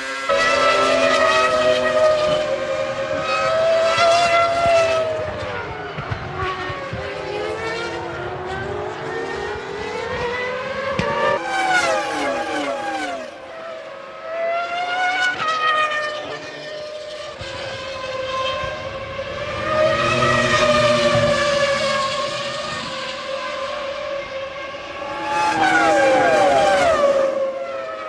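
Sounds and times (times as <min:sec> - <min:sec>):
racing car engines at high revs: 0:00.0 - 0:28.0
racing cars passing by: 0:00.0 - 0:28.0.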